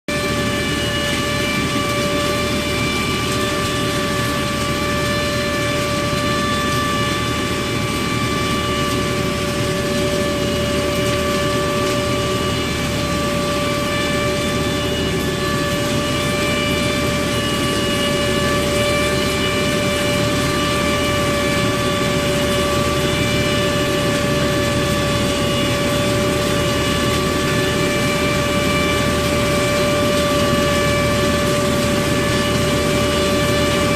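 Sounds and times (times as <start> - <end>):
nut harvester whining: 0.1 - 33.9.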